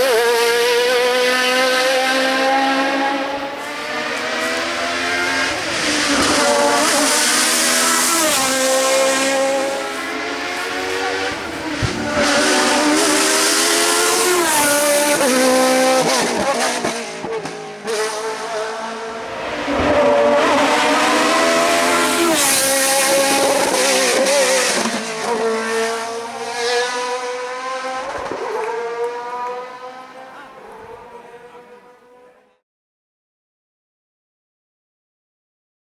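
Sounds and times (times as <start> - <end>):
race car engines revving: 0.0 - 32.6.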